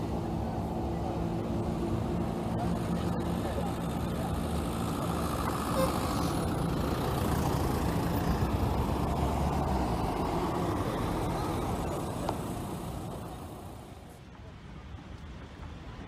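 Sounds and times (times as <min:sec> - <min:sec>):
vehicle engine running: 0:00.0 - 0:14.2
road noise: 0:00.0 - 0:16.0.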